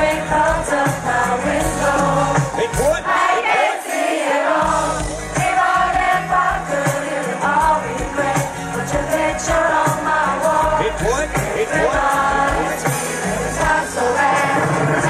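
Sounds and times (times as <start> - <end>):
bass: 0.0 - 3.1, 4.6 - 15.0
steady drum beat: 0.0 - 3.1, 4.5 - 15.0
keyboards: 0.0 - 15.0.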